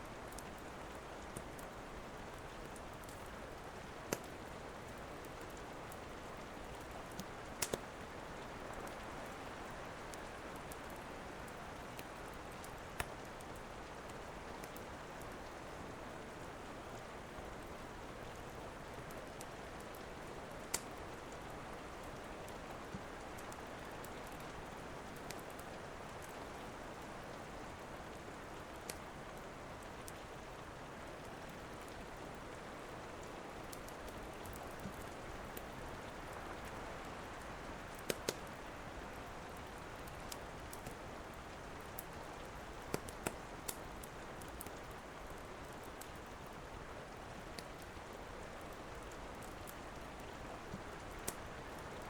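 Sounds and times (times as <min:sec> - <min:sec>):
rain falling: 0:00.0 - 0:52.0
wood fire crackling: 0:00.1 - 0:52.0.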